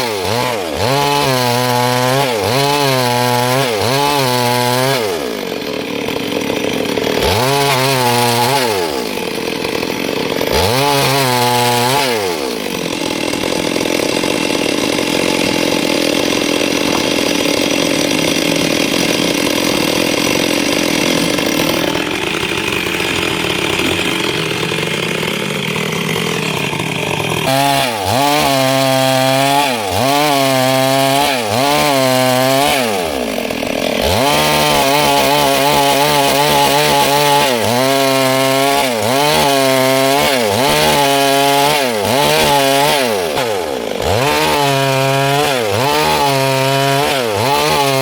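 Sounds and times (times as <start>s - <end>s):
chainsaw cutting through wood: 0.0s - 48.0s
chainsaw revving: 0.0s - 48.0s.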